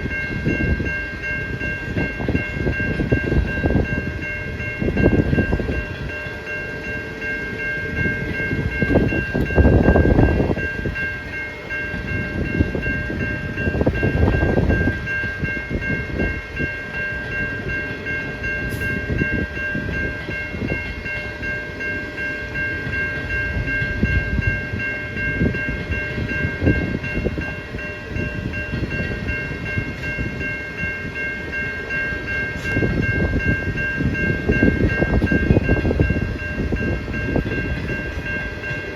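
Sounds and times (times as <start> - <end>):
level crossing bells ringing: 0.0 - 38.9
train passing rumble: 0.0 - 38.9.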